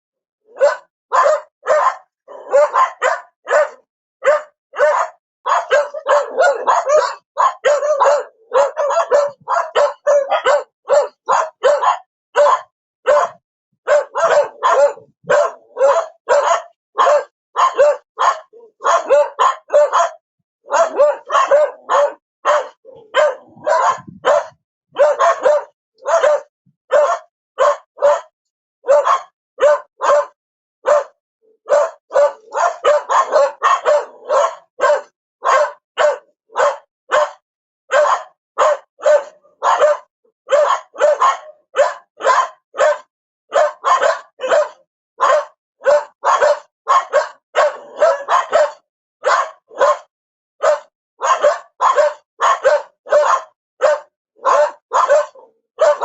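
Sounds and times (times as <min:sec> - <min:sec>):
dog barking: 0:00.4 - 0:56.0.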